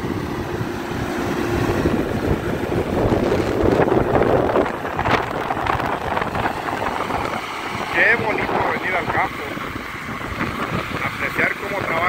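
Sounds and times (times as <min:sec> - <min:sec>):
diesel tractor running under load: 0:00.0 - 0:12.0
rotavator churning through water: 0:00.0 - 0:12.0
wind buffeting microphone: 0:00.0 - 0:12.0.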